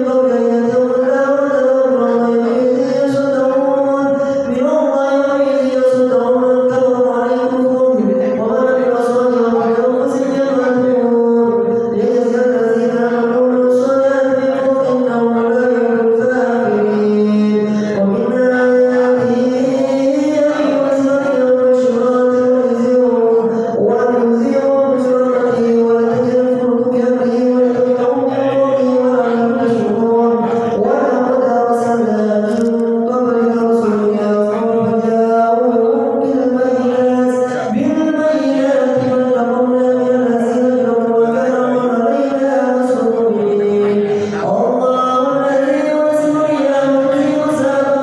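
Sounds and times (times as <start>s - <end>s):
man chanting recitation: 0.0s - 48.0s.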